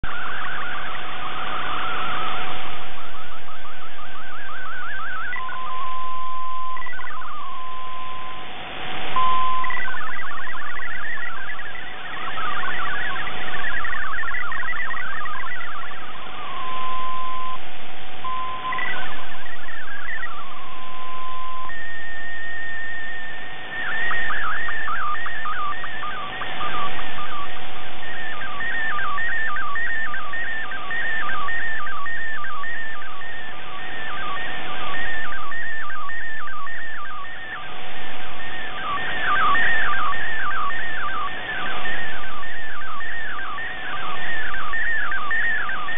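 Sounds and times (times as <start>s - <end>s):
held radio tones: 0.0s - 45.9s
radio hiss: 0.0s - 45.9s
warbling digital data tones: 0.0s - 45.9s.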